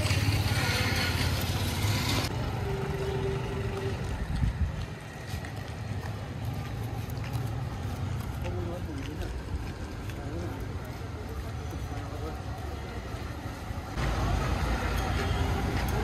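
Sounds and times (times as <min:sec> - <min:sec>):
traffic engine rumble: 0:00.0 - 0:16.0.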